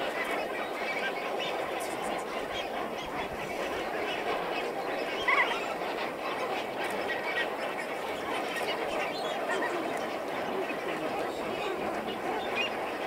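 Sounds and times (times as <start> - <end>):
flock of flamingos honking: 0.0 - 13.0.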